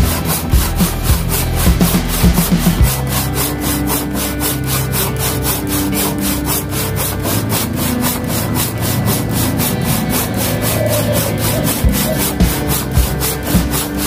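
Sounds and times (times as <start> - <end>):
hand saw cutting wood: 0.0 - 14.0.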